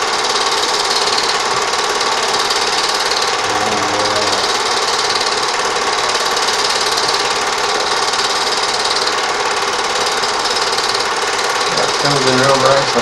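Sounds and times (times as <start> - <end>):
film projector clattering: 0.0 - 13.0.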